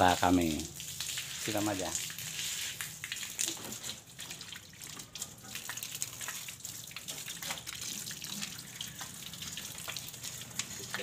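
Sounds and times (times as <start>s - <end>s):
water spraying on car engine: 0.0s - 11.0s.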